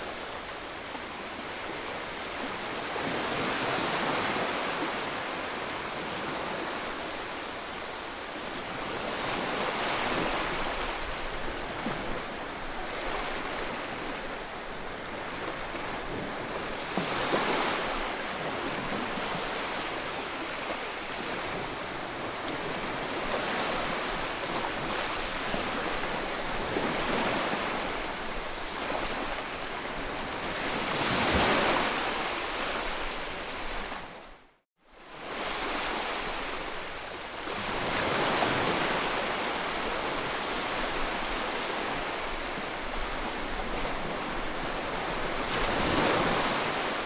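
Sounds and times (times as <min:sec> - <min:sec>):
ocean waves breaking on shore: 0:00.0 - 0:47.0.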